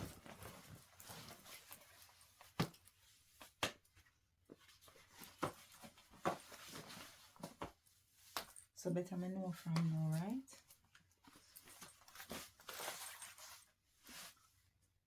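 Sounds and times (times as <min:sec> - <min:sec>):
clothes rustling: 0:00.0 - 0:08.8, 0:09.5 - 0:14.8.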